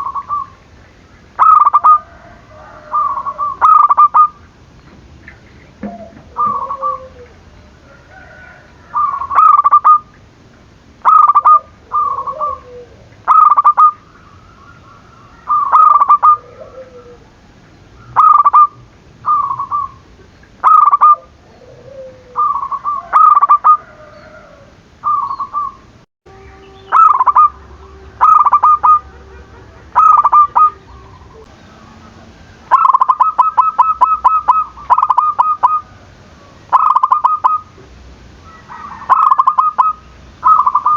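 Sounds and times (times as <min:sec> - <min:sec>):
doves cooing: 0:00.0 - 0:10.2, 0:11.0 - 0:25.9, 0:26.5 - 0:40.9.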